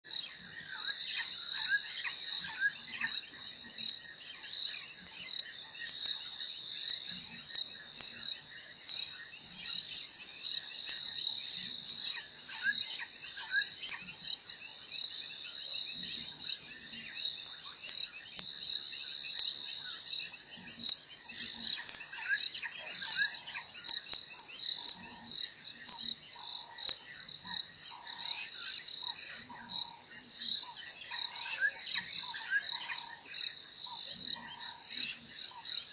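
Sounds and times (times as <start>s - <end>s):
cricket-like insect trill: 0.1s - 35.9s
faint insect chirps: 0.1s - 35.9s.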